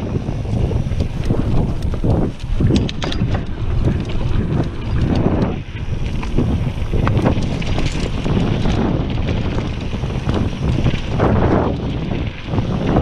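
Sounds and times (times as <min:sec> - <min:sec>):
bike rattling over bumps: 0:00.0 - 0:13.0
wind buffeting microphone: 0:00.0 - 0:13.0
tyres rumbling on dirt: 0:00.1 - 0:13.0.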